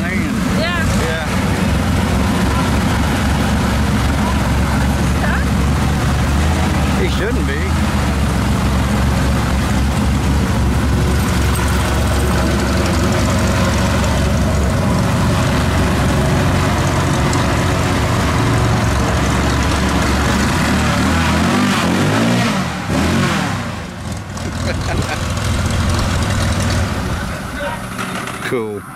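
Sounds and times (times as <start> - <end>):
airboat engine and propeller: 0.0 - 28.7.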